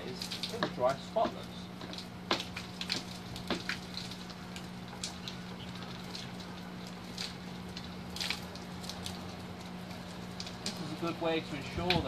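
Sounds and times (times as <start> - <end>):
dripping water: 0.0 - 12.0
light rain patter: 0.0 - 12.0
steady low hum: 0.0 - 12.0.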